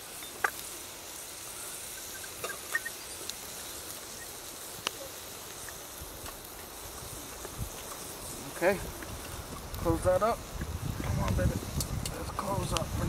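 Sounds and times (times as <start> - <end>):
faint steady hiss: 0.0 - 13.0
wood fire crackling and popping: 0.0 - 13.0.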